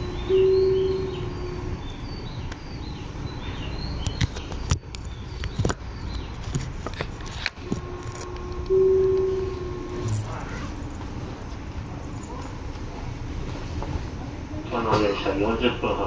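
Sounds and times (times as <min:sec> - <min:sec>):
steady hum: 0:00.0 - 0:16.0
train running rumble: 0:00.0 - 0:16.0.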